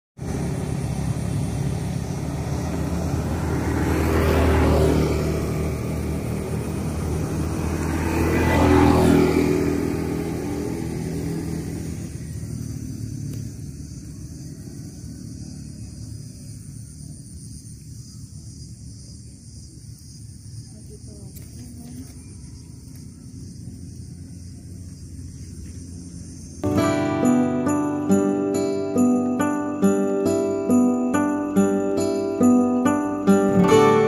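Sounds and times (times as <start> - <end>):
vehicles passing on a road: 0.2 - 34.0.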